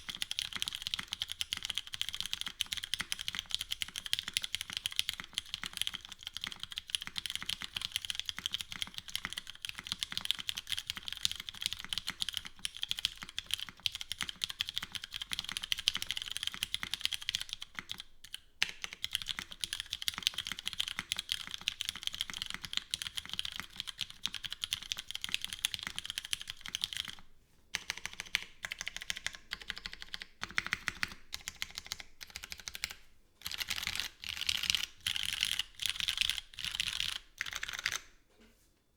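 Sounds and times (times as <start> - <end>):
mechanical keyboard typing: 0.0 - 27.2, 27.8 - 38.1.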